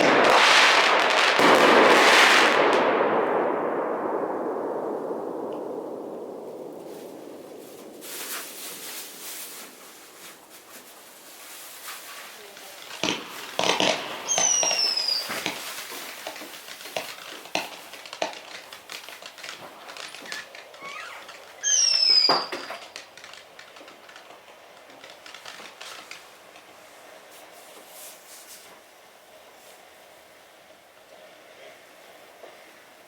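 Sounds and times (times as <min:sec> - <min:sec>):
whistling fireworks: 0:00.0 - 0:28.7
firework pops and crackles: 0:00.0 - 0:29.9.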